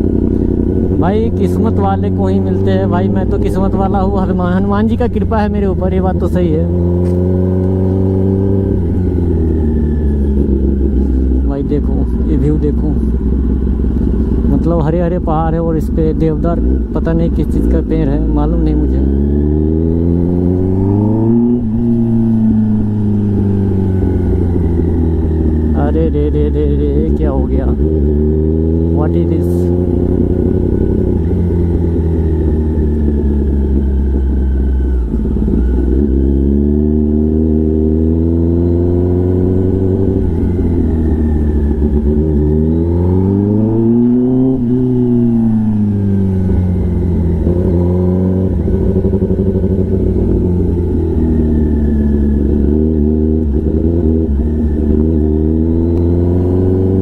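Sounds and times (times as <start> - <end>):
motorcycle engine at low revs: 0.0 - 57.0.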